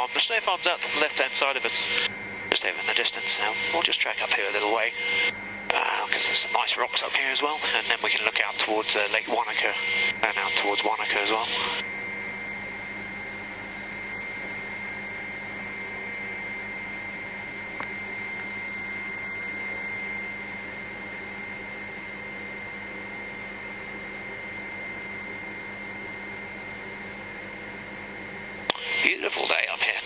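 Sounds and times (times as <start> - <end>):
helicopter cabin hum and whine: 0.0 - 30.0.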